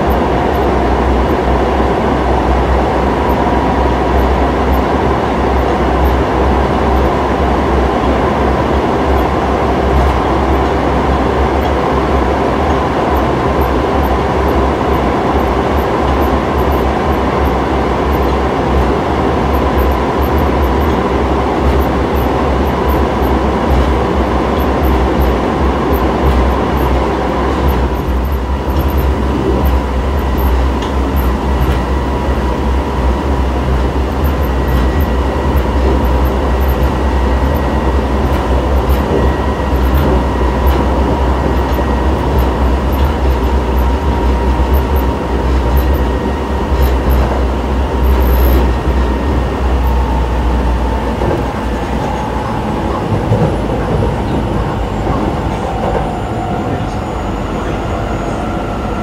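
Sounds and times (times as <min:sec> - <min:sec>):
thin inverter whine: 0:00.0 - 0:59.0
train wheels rumbling on track: 0:00.0 - 0:59.0.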